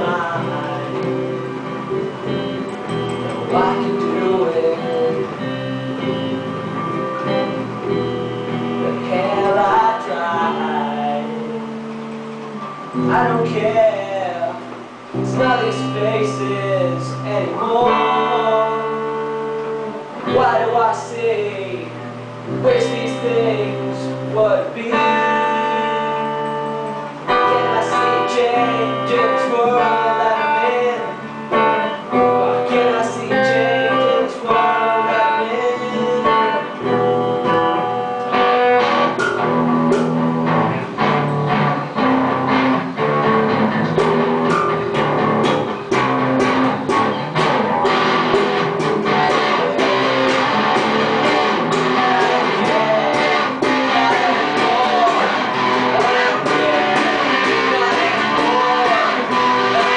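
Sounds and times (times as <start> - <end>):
electric guitars playing: 0.0 - 59.9.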